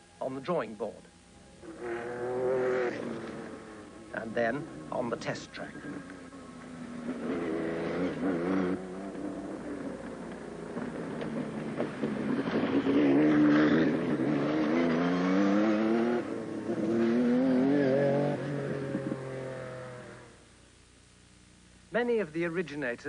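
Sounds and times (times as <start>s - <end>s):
racing car engine accelerating: 1.6s - 20.3s.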